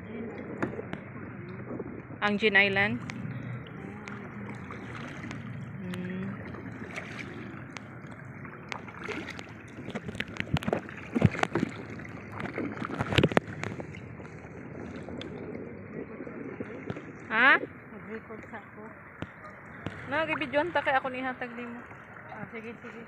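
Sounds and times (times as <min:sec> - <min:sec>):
water sloshing around kayak: 0:00.0 - 0:23.0.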